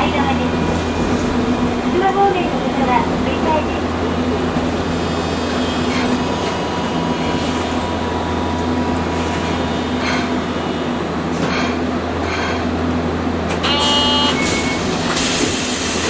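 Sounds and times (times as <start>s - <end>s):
tram rumbling and humming: 0.0s - 16.0s.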